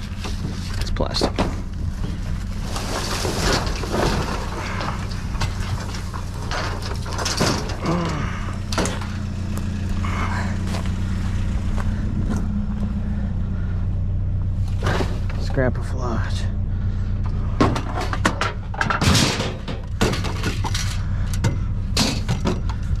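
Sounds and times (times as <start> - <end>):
junk knocking and rattling: 0.0 - 23.0
truck engine idling: 0.0 - 23.0.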